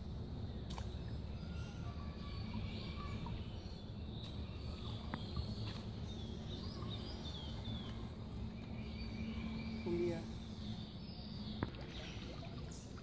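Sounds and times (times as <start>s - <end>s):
low background rumble: 0.0s - 13.0s
small birds chirping: 0.4s - 13.0s.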